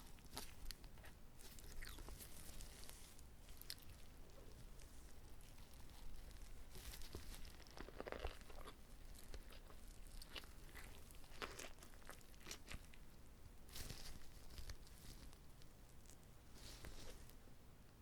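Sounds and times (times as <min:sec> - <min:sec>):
moist chewing: 0:00.0 - 0:17.4.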